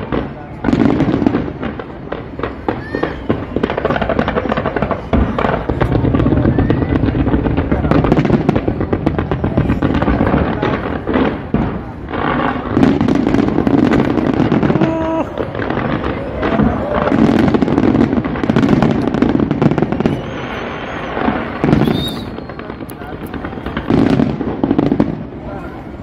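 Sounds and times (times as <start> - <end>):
firecrackers crackling: 0.0 - 26.0
fireworks low booms: 0.0 - 26.0.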